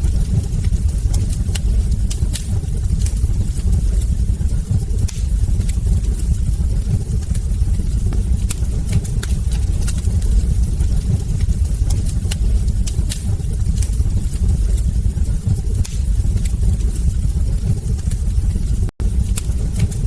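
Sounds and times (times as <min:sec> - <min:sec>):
crackles and pops from logs: 0:00.0 - 0:20.0
wood fire burning: 0:00.0 - 0:20.0.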